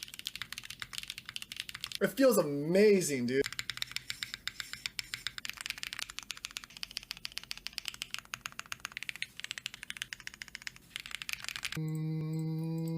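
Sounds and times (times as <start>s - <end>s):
mechanical keyboard typing: 0.0s - 2.0s, 3.4s - 12.0s.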